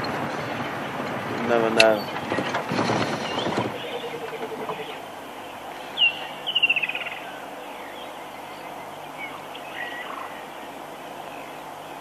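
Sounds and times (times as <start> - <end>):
bird calling: 1.8 - 12.0.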